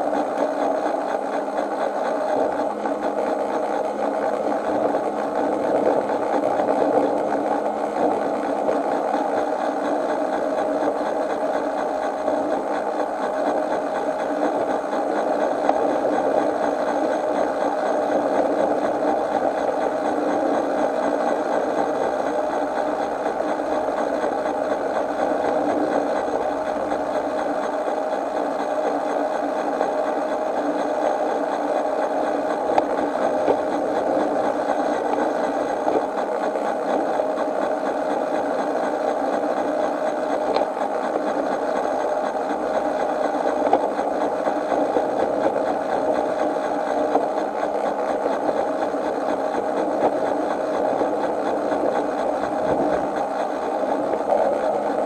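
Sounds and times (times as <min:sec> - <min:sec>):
miniature train running on track: 0:00.0 - 0:55.0.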